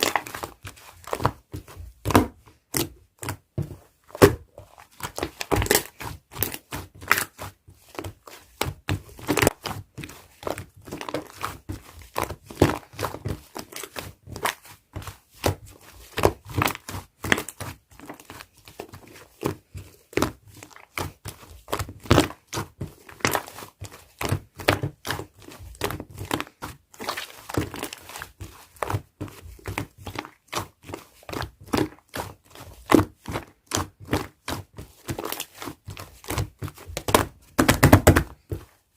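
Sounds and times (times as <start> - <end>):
slime kneaded by hand popping: 0.0 - 38.8.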